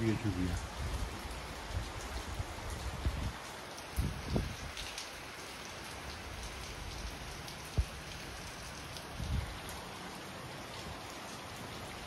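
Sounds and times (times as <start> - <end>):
heavy rain on the ground: 0.0 - 12.0.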